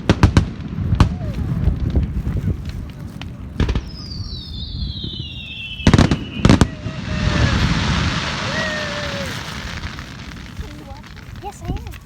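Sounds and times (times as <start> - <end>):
crackling hiss: 0.0 - 12.0
firework bangs: 0.0 - 12.0.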